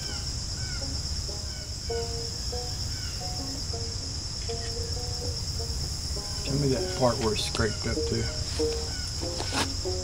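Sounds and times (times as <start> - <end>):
crickets chirping: 0.0 - 10.0
music with repeated short notes: 0.8 - 10.0.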